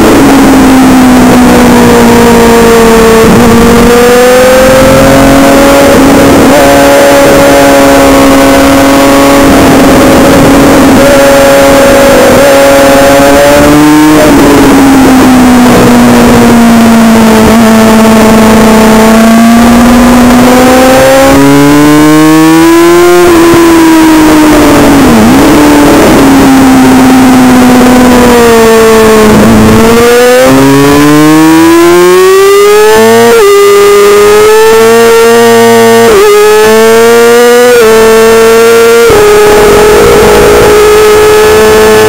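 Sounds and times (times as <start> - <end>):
race motorcycle engine revving: 0.0 - 42.0
steady rushing noise: 0.0 - 42.0.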